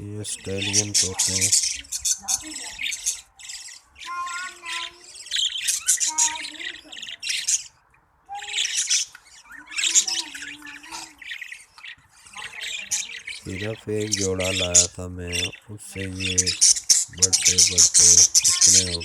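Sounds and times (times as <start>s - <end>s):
budgerigars chirping and chattering: 0.0s - 19.0s.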